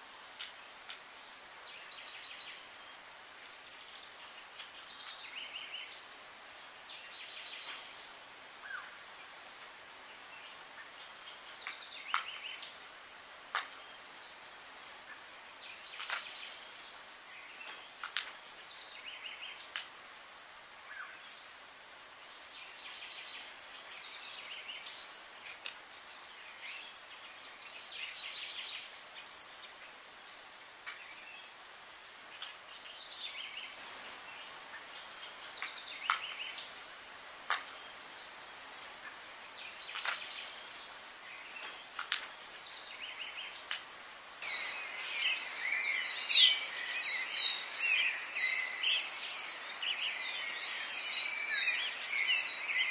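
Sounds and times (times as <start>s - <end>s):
high-pitched insect trill: 0.0s - 52.9s.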